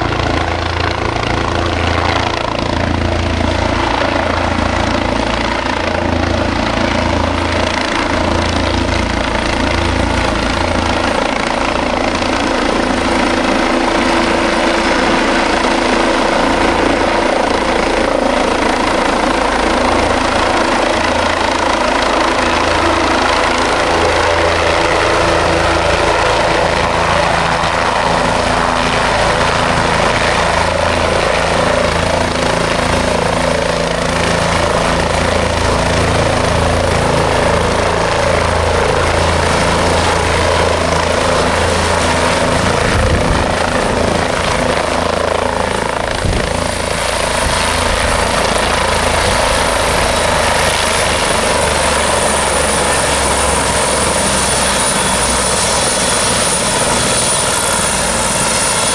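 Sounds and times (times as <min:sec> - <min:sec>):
helicopter engine and rotors: 0:00.0 - 0:58.9.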